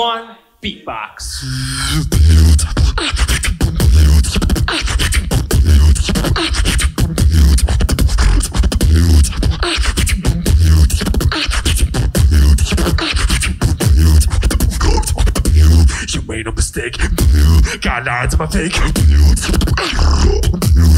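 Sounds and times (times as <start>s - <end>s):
beatboxing into a microphone: 1.2s - 20.9s.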